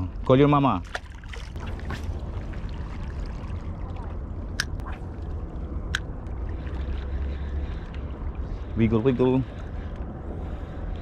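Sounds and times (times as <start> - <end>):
wind rumble on microphone: 1.4 - 11.0.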